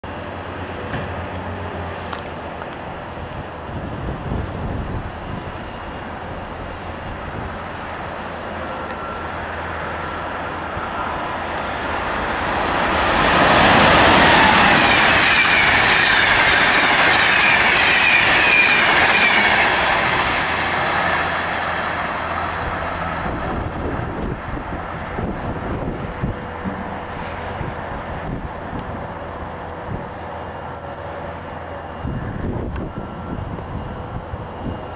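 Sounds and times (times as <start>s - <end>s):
train wheels rumbling on rail: 0.1s - 34.9s.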